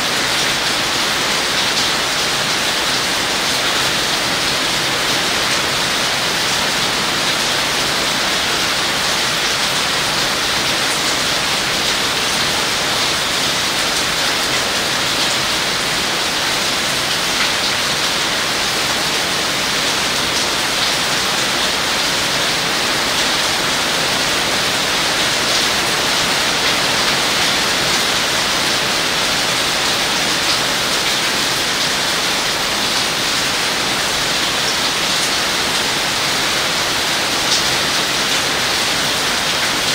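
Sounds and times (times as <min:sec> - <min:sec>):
heavy rain on leaves and grass: 0:00.0 - 0:39.9.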